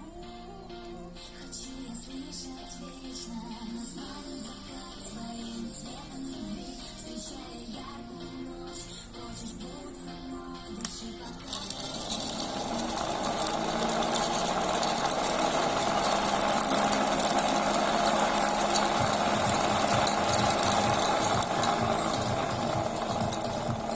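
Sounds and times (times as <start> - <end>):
radiator cooling fan whirring: 0.0 - 23.9.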